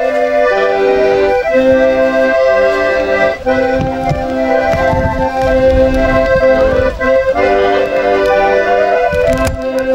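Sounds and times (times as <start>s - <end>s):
accordion playing a tune: 0.0s - 9.9s.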